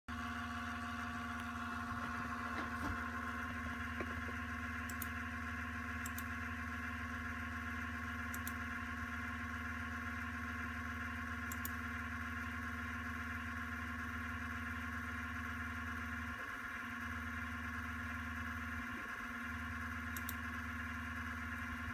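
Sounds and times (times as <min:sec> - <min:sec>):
electrical hum and whine: 0:00.1 - 0:21.9.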